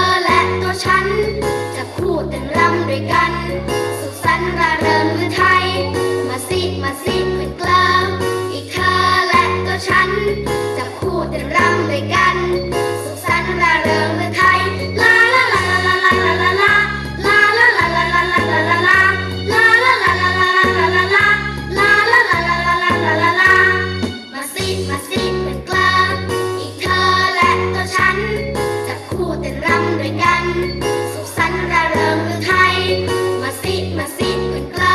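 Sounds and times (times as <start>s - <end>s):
bouncing bass line: 0.0s - 34.9s
sung children's song: 0.0s - 34.9s.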